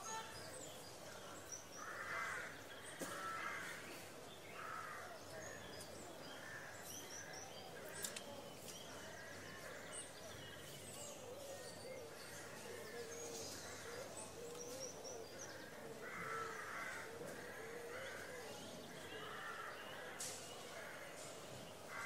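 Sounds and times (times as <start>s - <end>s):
murmur of distant voices: 0.0s - 22.0s.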